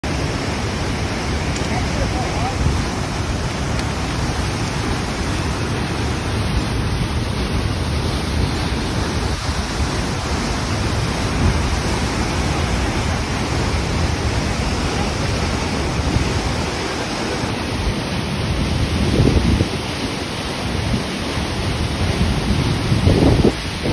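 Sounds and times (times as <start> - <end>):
whitewater rushing: 0.0 - 23.9.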